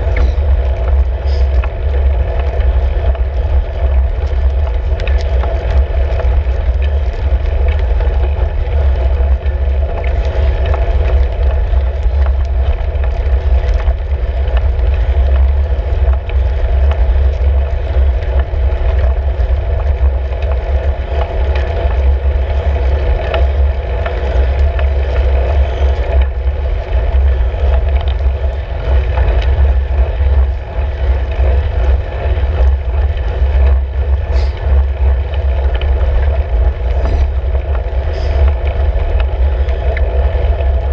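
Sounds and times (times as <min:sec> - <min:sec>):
small clicks and rattles: 0:00.0 - 0:40.9
wind and road rumble: 0:00.0 - 0:40.9.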